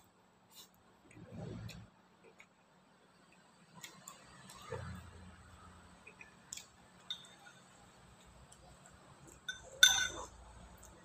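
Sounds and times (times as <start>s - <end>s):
soft chewing: 0.4s - 9.5s, 10.2s - 11.0s.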